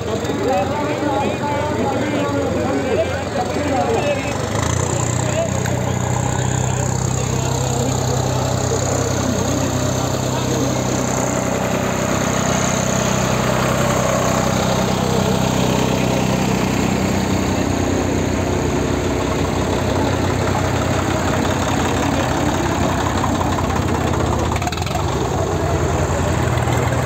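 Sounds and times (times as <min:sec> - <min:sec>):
tractor diesel engines idling: 0:00.0 - 0:27.0.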